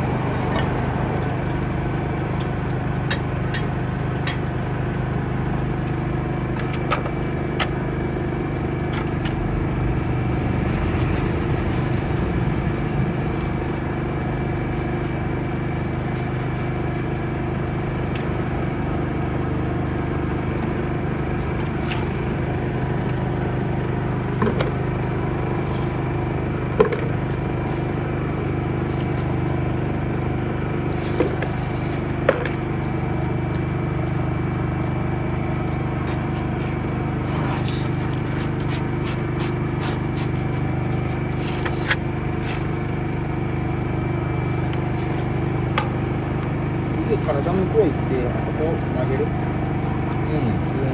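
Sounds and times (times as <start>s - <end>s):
drain-jetting machine engine: 0.0s - 50.9s.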